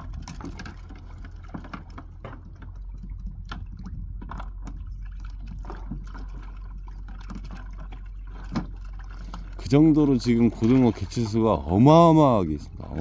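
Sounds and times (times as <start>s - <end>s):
low rumble: 0.0s - 13.0s
water sloshing and splashing: 0.0s - 13.0s.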